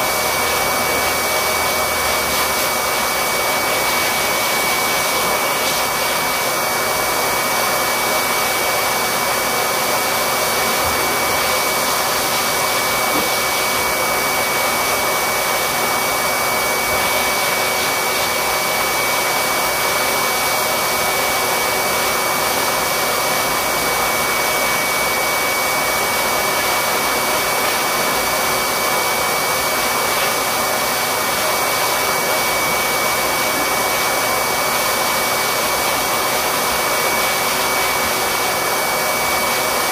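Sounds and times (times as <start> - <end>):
electric air blower running: 0.0 - 39.9.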